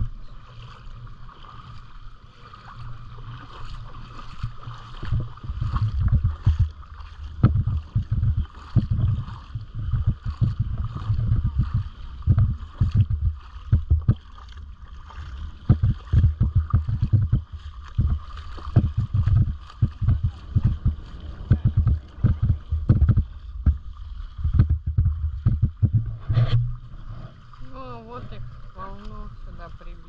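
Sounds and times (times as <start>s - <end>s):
shallow sea water washing: 0.0s - 30.0s
wind buffeting microphone: 3.6s - 30.0s.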